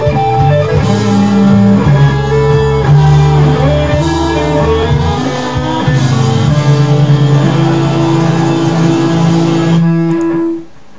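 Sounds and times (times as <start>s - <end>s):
electric guitar: 0.0s - 10.9s.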